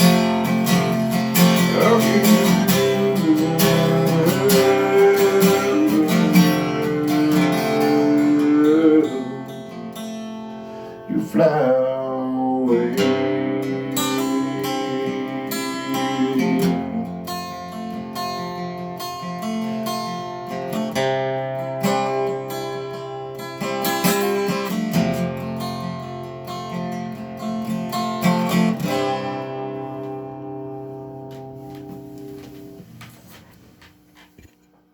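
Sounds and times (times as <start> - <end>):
acoustic guitar strumming: 0.0 - 34.4.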